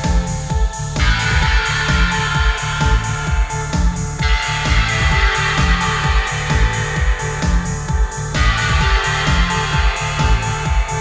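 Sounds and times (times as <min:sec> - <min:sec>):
music with driving beat: 0:00.0 - 0:11.0.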